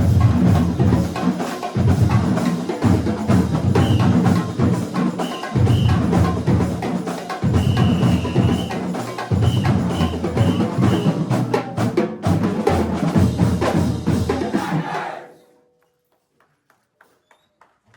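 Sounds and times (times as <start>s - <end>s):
snare drum rolls: 0.0s - 15.2s.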